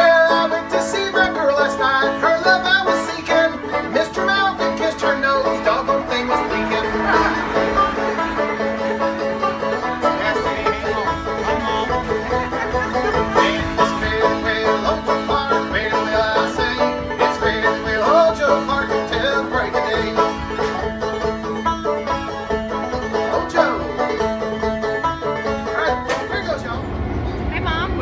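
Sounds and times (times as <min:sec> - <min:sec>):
bluegrass banjo and guitar music: 0:00.0 - 0:28.0.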